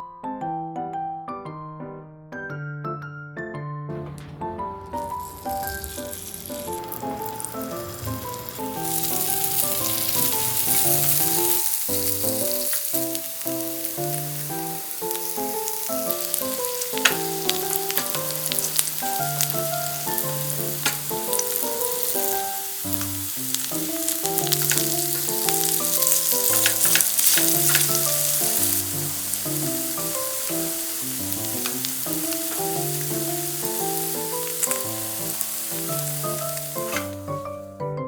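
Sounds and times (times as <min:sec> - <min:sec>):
soft background music: 0:03.9 - 0:38.0
batter frying in oil: 0:04.0 - 0:37.7.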